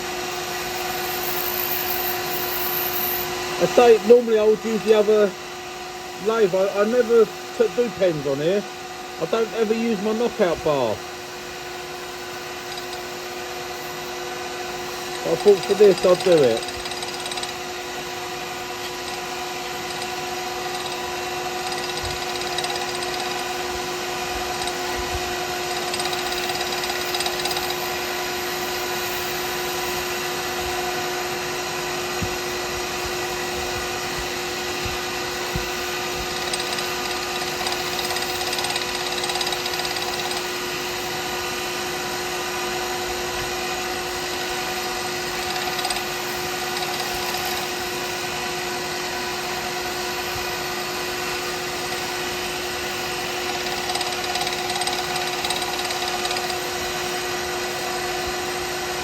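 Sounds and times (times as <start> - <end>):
wood lathe whining: 0.1 - 59.0.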